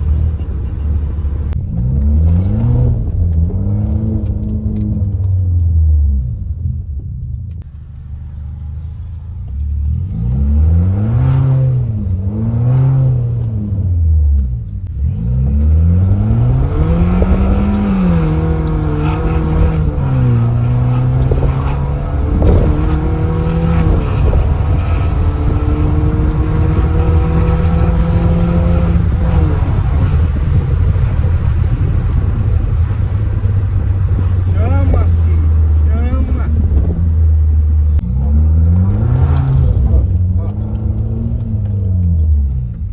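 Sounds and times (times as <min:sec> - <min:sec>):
car engine revving and accelerating: 0:00.0 - 0:07.0, 0:07.7 - 0:42.9.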